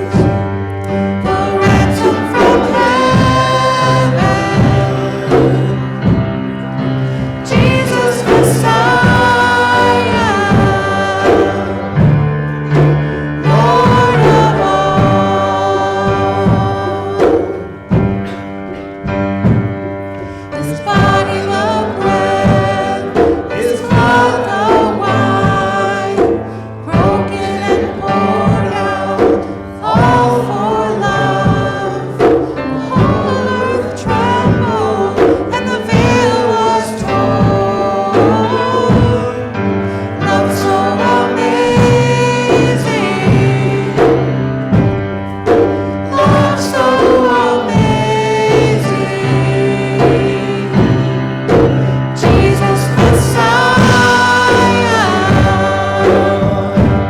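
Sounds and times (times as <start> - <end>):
congregation singing: 0.0 - 57.0
instrumental accompaniment: 0.0 - 57.0.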